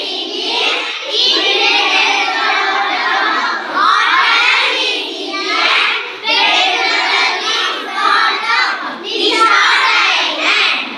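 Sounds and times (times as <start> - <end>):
children singing a chant: 0.0 - 10.9.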